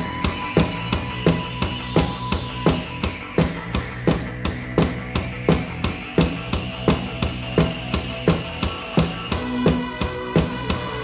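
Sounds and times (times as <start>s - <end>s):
bass guitar notes: 0.0s - 11.0s
drum beat: 0.0s - 11.0s.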